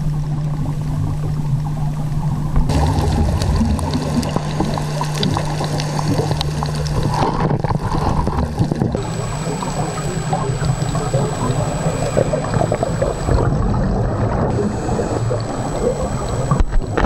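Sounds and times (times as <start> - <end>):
low underwater rumble: 0.0 - 17.0
scuba bubbles gurgling: 0.0 - 17.0.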